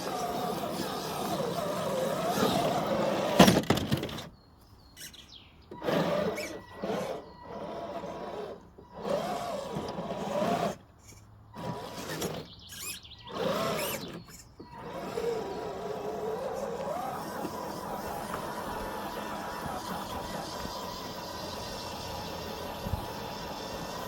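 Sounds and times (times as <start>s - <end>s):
electric motor whining: 0.0s - 3.5s, 5.0s - 24.0s.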